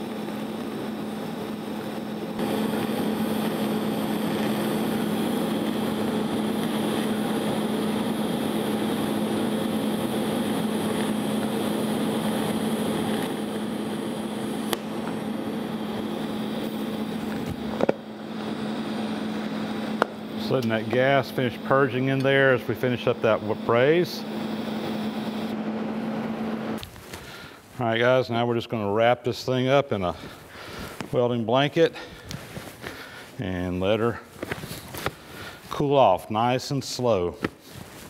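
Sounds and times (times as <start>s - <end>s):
shielding gas hissing: 0.0s - 38.0s
welding arc buzzing: 0.0s - 38.0s.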